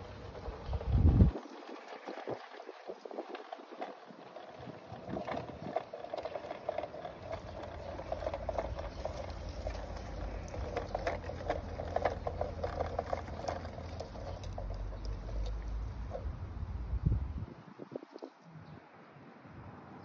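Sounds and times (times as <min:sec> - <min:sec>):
model train wheels clattering: 0:00.0 - 0:16.2.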